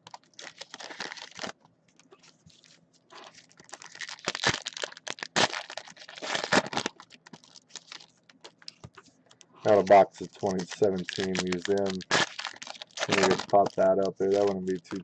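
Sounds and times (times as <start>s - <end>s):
wrappers tearing and crinkling: 0.0s - 8.7s, 9.6s - 15.0s.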